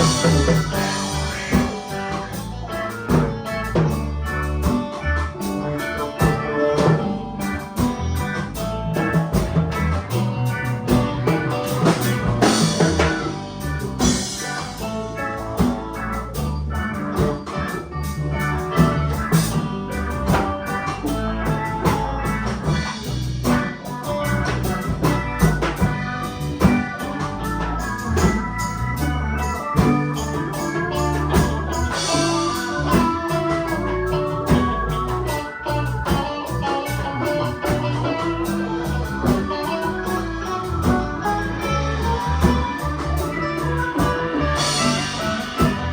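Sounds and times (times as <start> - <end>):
band playing: 0.0 - 45.9.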